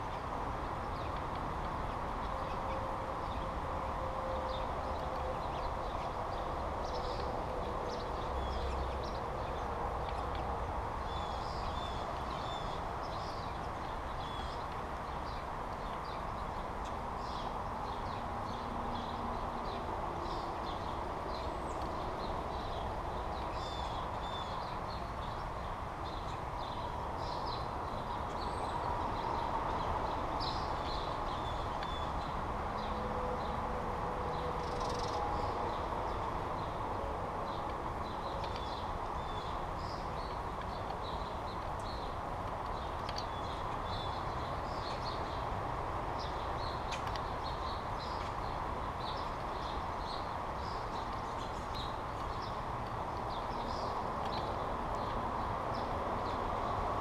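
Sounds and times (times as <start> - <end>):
birds chirping: 0.0 - 33.6, 34.3 - 56.8.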